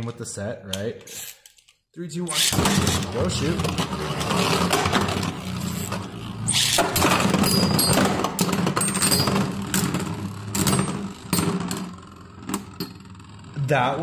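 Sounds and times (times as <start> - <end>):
spinning tops whirring: 2.3 - 14.0.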